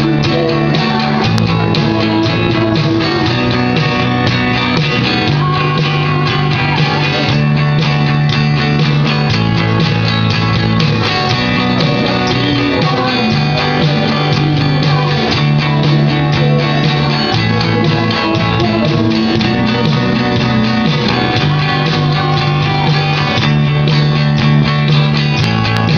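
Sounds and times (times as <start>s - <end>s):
live band playing loud song: 0.0s - 25.9s.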